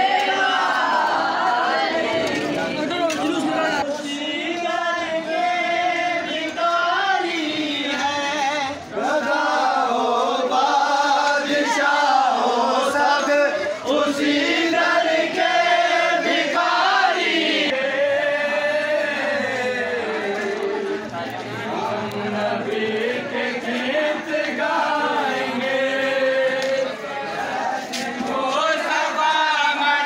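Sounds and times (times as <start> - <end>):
men chanting together: 0.0 - 30.0.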